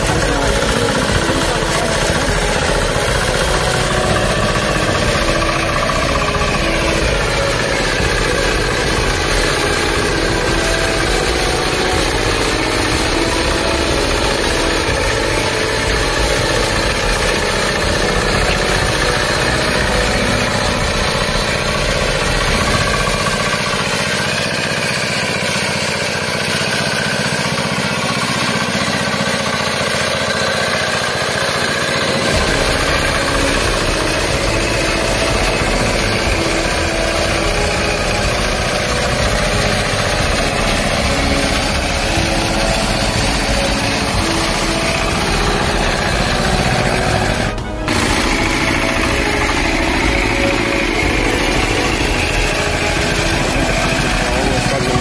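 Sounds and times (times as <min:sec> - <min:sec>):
power tiller engine running: 0:00.0 - 0:55.0.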